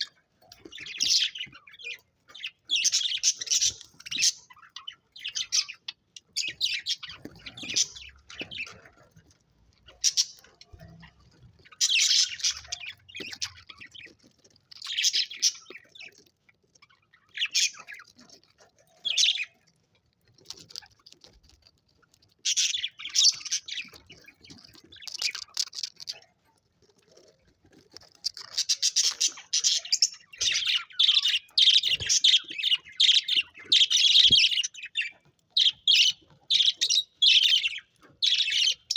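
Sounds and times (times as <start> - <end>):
budgerigars chirping and warbling: 0.0 - 21.6, 22.2 - 38.9.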